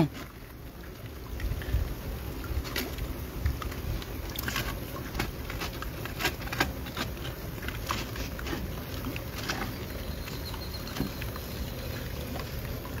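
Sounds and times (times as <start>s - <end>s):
rainwater dripping and splashing: 0.0s - 13.0s.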